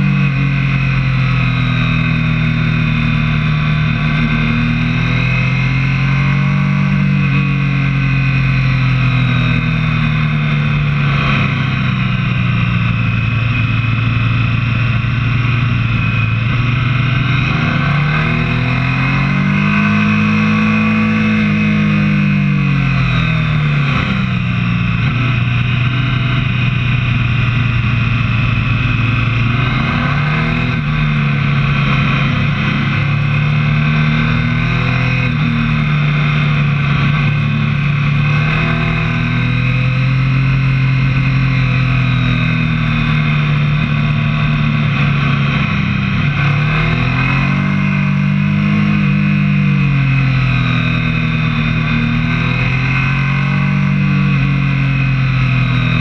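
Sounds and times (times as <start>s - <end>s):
motorcycle engine revving: 0.0s - 56.0s
steady rushing noise: 9.0s - 56.0s.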